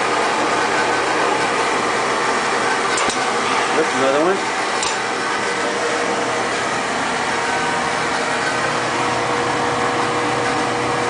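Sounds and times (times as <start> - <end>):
oil burner roaring: 0.0 - 11.0
steady hum: 0.0 - 11.0.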